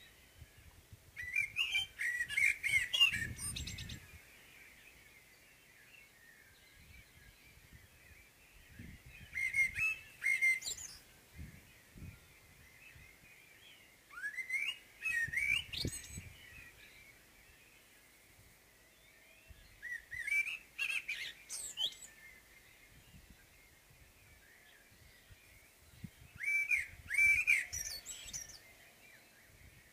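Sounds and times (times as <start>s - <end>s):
blackbird singing: 0.0s - 18.0s, 18.7s - 29.9s
faint background birdsong: 0.0s - 29.9s.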